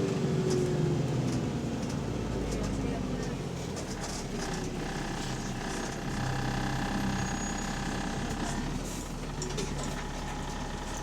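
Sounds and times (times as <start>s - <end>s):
bus engine hum: 0.0s - 11.0s.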